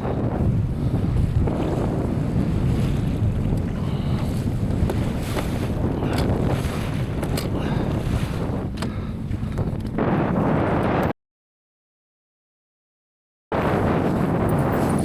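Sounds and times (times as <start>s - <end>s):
boat running across choppy water: 0.0s - 11.1s, 13.6s - 15.0s
wind buffeting microphone: 0.0s - 11.1s, 13.6s - 15.0s.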